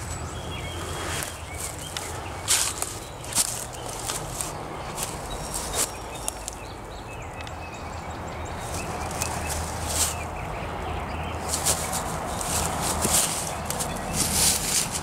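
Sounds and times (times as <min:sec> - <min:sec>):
footsteps crunching through dry leaves: 0:00.0 - 0:06.7, 0:08.5 - 0:15.0.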